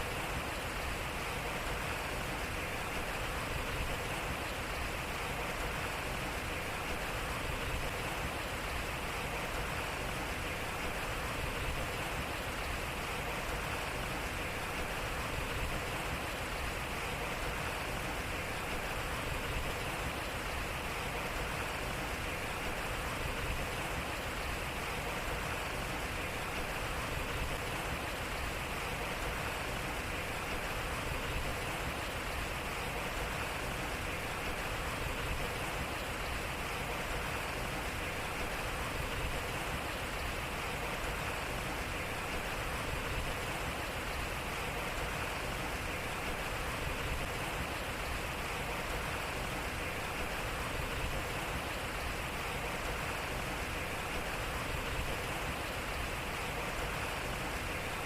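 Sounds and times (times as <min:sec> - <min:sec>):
water splashing at water wheel: 0:00.0 - 0:58.0.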